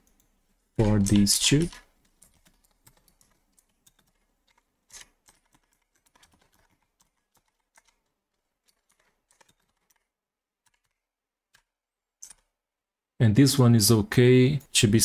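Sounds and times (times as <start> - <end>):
typing on a keyboard: 0.0 - 12.5.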